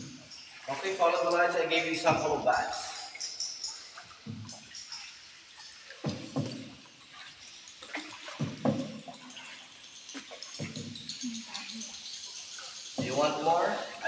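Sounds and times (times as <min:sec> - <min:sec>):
soft splashes: 0:00.0 - 0:14.0
water sloshing around a boat: 0:00.0 - 0:14.0.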